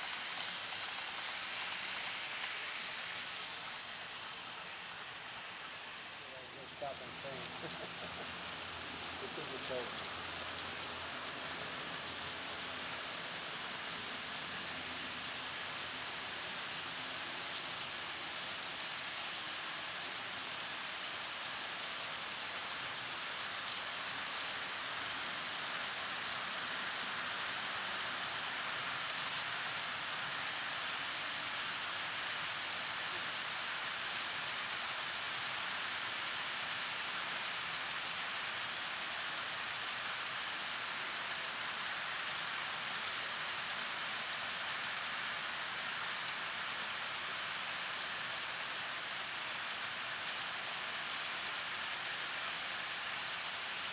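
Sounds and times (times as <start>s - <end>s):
model train wheels hissing on rail: 0.0s - 53.9s.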